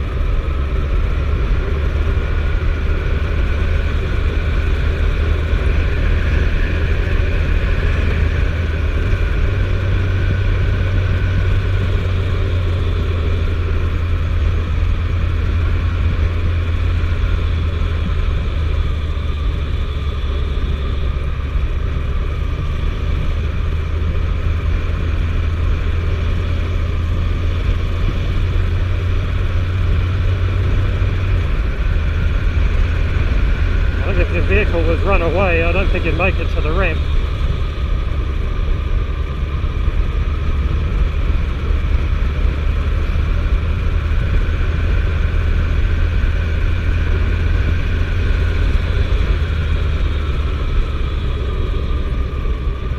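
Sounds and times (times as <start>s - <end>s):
motorcycle engine droning: 0.0s - 52.9s
road and wind noise: 0.0s - 52.9s.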